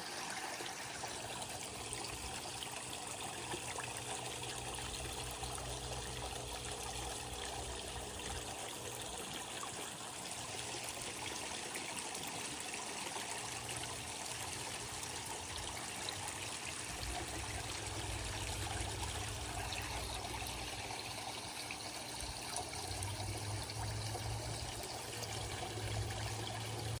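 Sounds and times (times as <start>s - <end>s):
water trickling into a pond: 0.0s - 27.0s.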